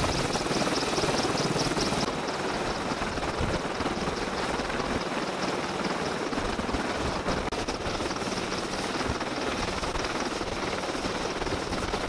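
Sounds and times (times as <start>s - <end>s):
helicopter rotor and engines: 0.0s - 12.0s.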